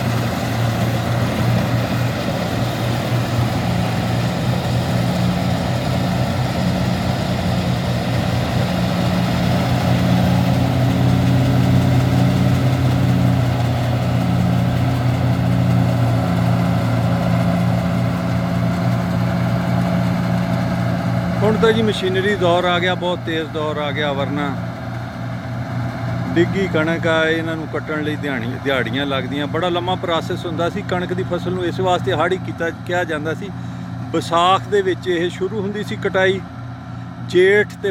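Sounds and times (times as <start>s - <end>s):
combine harvester drone: 0.0s - 37.9s.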